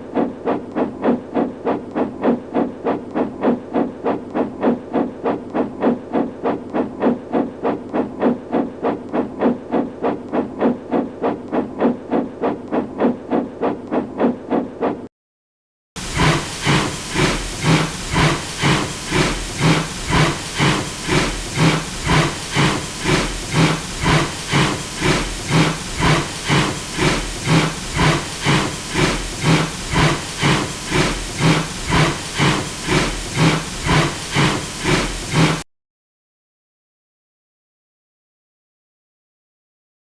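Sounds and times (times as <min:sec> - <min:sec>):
steam locomotive chuffing: 0:00.0 - 0:15.0, 0:16.0 - 0:35.6.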